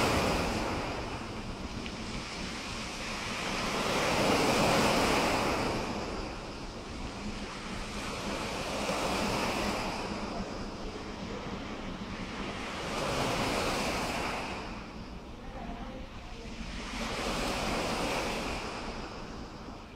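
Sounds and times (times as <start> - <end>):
wind rumbling on microphone: 0.0 - 19.9.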